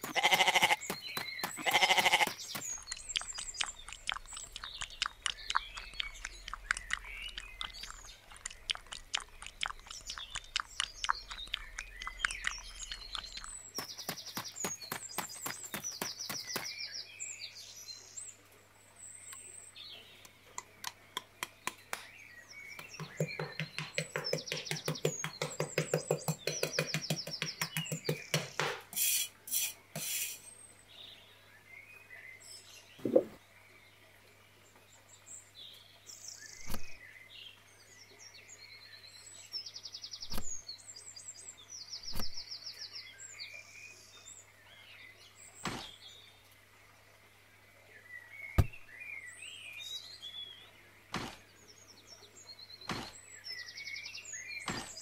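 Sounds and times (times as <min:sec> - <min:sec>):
birds chirping: 0:00.0 - 0:46.6, 0:47.4 - 0:55.0.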